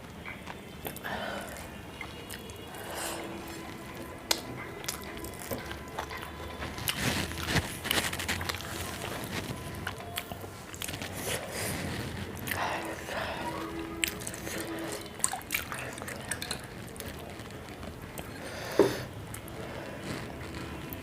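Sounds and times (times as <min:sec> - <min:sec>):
chewing and crunchy bites: 0:00.0 - 0:18.5.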